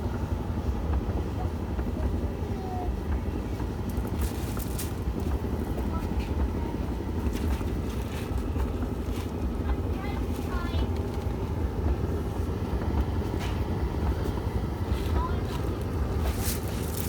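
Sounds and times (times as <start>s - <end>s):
tumble dryer rumbling: 0.0s - 17.0s.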